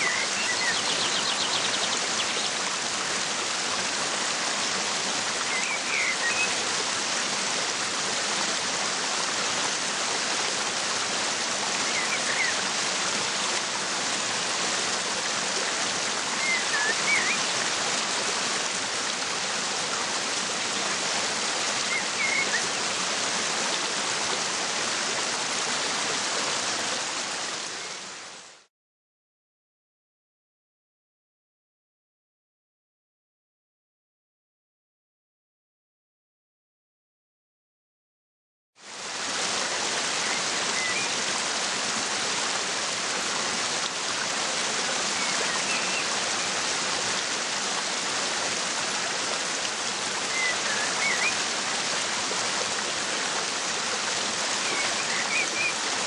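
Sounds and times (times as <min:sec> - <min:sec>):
waterfall rushing: 0:00.0 - 0:28.3, 0:38.9 - 0:56.0.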